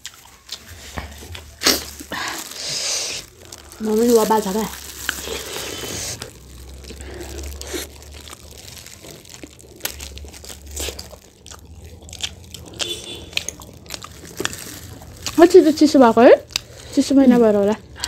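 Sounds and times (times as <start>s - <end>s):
person chewing food: 0.0s - 15.6s, 16.4s - 17.0s.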